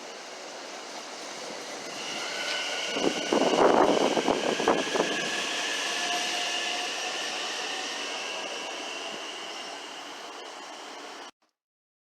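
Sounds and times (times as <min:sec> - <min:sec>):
train wheels clattering on track: 0:00.0 - 0:10.7
train high whine: 0:00.0 - 0:11.3.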